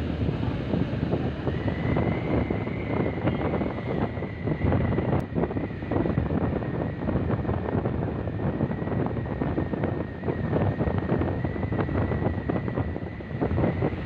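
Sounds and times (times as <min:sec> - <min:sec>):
tyre noise on road: 0:00.0 - 0:14.0
wind buffeting microphone: 0:00.0 - 0:14.0.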